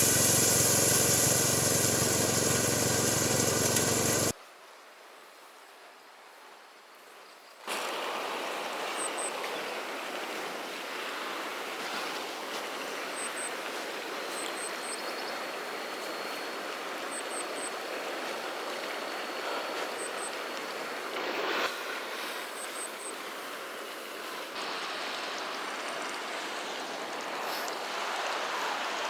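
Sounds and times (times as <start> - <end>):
flowing water rushing: 0.0 - 4.4, 7.7 - 29.0.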